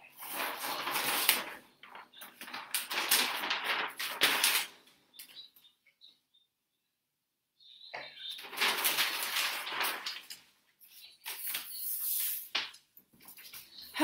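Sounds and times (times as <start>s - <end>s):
faint paper crinkles: 0.0s - 5.4s, 8.0s - 14.0s
paper rustling and flapping: 0.0s - 5.4s, 8.0s - 13.9s.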